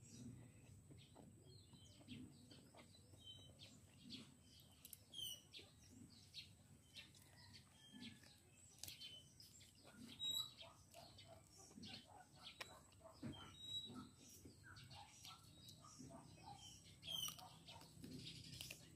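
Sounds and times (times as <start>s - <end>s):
faint birds chirping: 0.0s - 18.9s.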